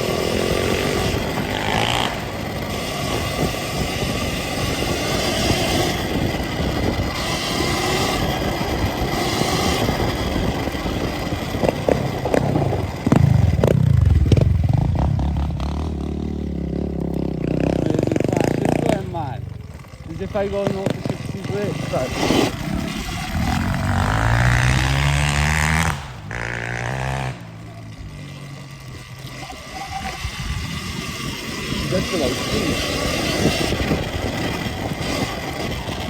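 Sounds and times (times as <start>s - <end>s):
wind and terrain noise: 0.0s - 36.0s.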